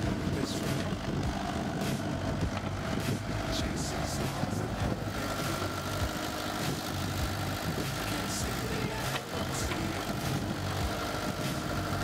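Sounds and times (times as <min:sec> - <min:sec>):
diesel engine running: 0:00.0 - 0:12.0
thin steady whine: 0:00.0 - 0:12.0.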